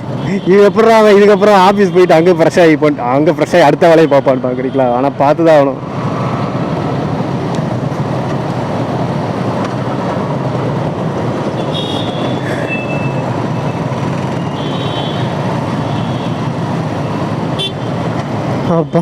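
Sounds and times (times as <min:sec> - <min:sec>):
motorcycle engine and road noise: 0:00.0 - 0:19.0.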